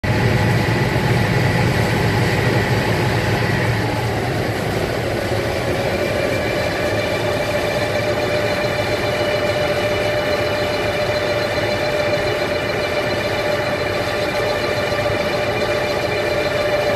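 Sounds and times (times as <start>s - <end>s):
diesel engine low rumble: 0.0s - 16.9s
engine whine: 0.0s - 16.9s.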